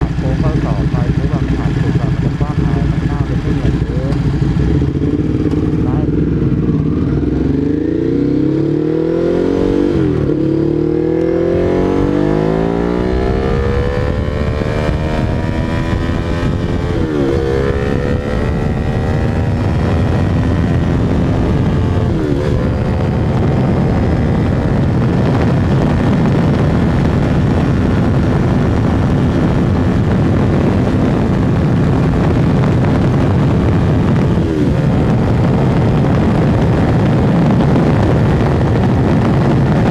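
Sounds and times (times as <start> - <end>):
motorcycle engine at full throttle: 0.0 - 39.9
wind rushing: 0.8 - 39.9.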